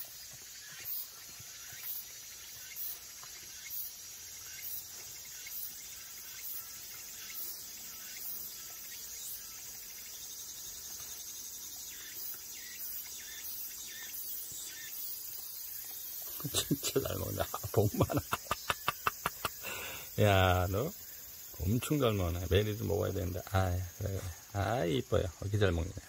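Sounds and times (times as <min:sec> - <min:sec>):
insects droning in trees: 0:00.0 - 0:26.0.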